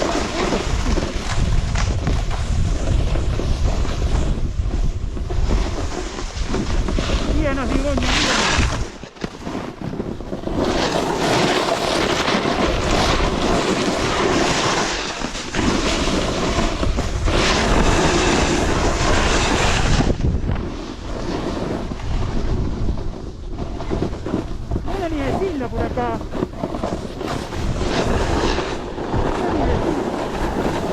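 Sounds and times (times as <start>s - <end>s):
skis sliding over snow: 0.0s - 30.9s
wind rushing over microphone: 0.0s - 30.9s.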